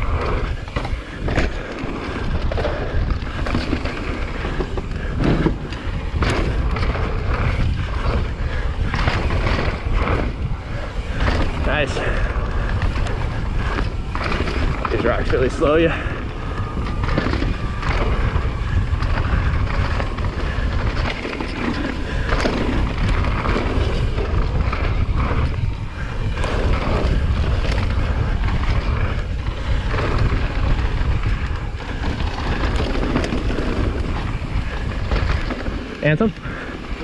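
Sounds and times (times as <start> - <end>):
bike knocks and rattles: 0.0 - 37.0
tyres on rocky trail: 0.0 - 37.0
wind buffeting microphone: 0.0 - 37.0.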